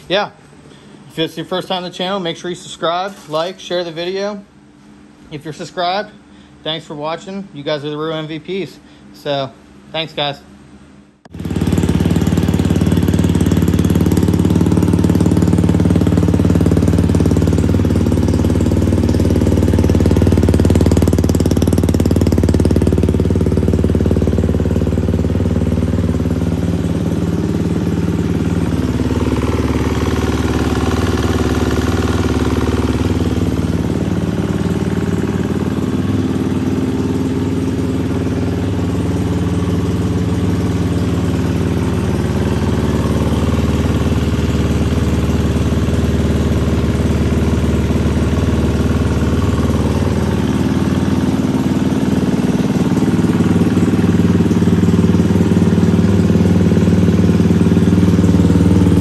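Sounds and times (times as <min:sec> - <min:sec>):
dirt bike engine idling: 0:00.0 - 0:09.0, 0:10.0 - 0:59.0.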